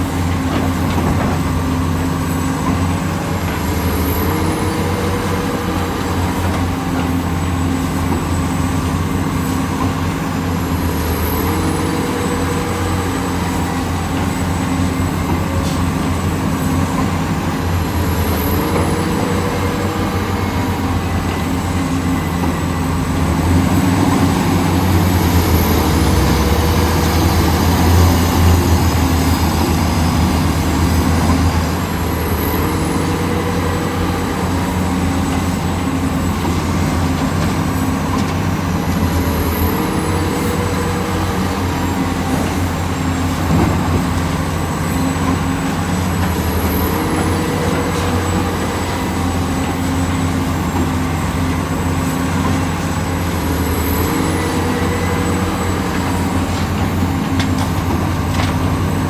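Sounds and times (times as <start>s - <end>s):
excavator engine running: 0.0s - 59.0s
hydraulic whine: 0.0s - 59.0s.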